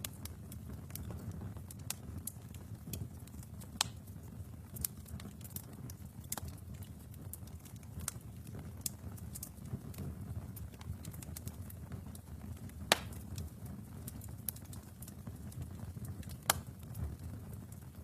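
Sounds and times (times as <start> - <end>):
fire crackling and popping: 0.0 - 18.0
fire rumbling in a fireplace: 0.0 - 18.0.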